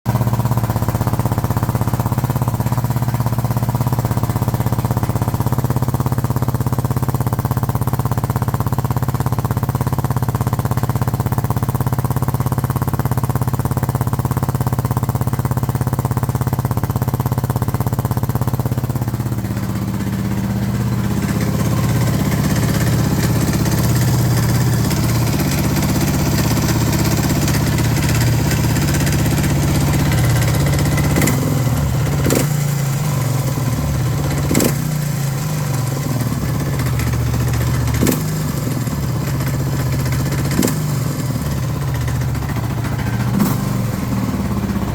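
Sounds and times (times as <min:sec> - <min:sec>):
motorcycle engine idling: 0:00.1 - 0:44.9.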